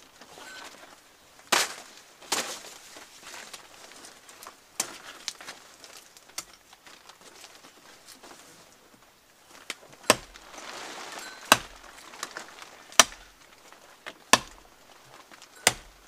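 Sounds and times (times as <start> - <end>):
twigs cracking and rustling: 0.0 - 16.0.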